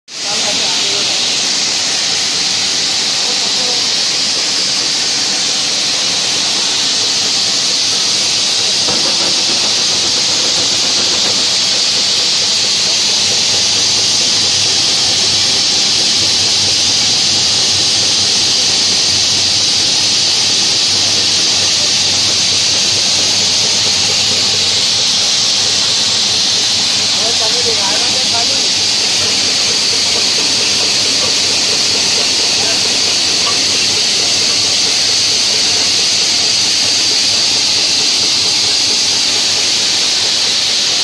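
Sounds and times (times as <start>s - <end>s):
mill machine hissing rush: 0.1s - 41.0s.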